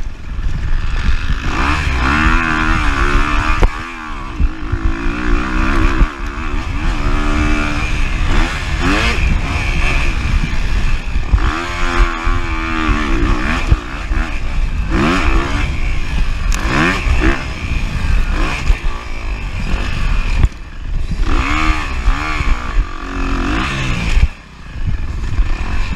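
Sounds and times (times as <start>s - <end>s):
motorcycle engine revving: 0.0s - 25.9s
wind on microphone: 0.0s - 25.9s.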